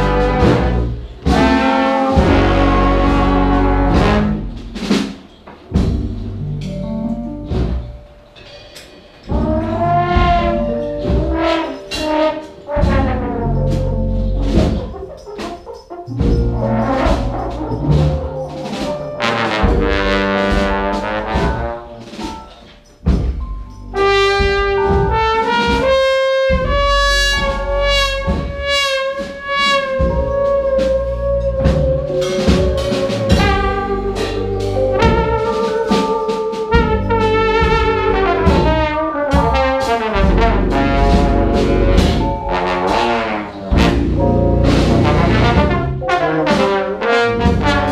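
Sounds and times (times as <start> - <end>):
brass band playing: 0.0 - 47.9
drum strokes: 0.0 - 47.9.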